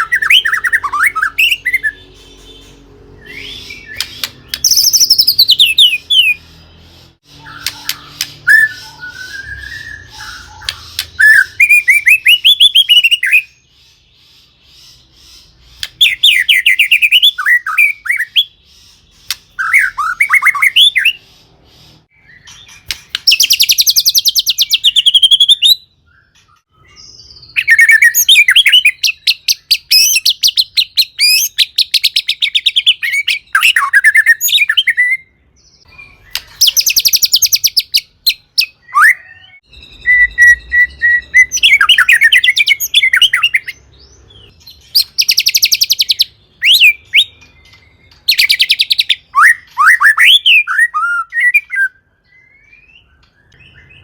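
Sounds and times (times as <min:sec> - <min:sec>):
songbird singing whistles and trills: 0:00.0 - 0:54.0.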